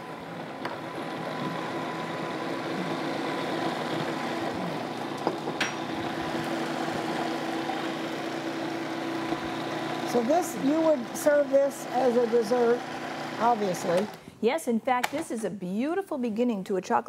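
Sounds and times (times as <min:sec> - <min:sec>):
food processor motor running: 0:00.0 - 0:14.2.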